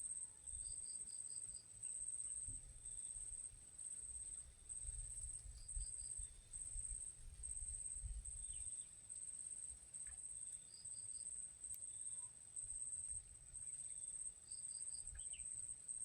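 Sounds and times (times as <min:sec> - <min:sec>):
insects chirping: 0:00.4 - 0:15.7.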